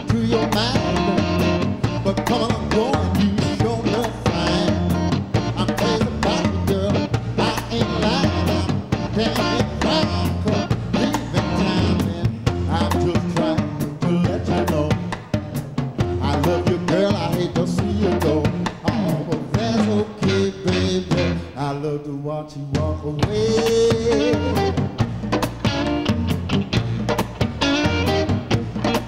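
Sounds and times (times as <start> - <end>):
man singing: 0.0 - 15.3, 16.0 - 25.0
blues band playing live: 0.0 - 29.0.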